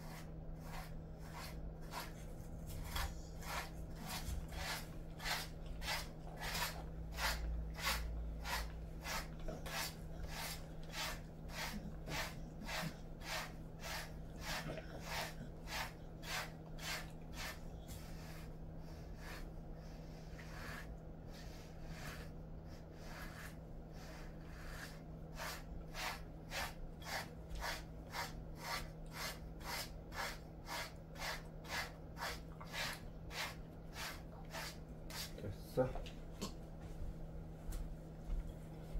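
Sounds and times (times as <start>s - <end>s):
brush stroking dog coat: 0.0s - 19.5s, 20.2s - 35.4s.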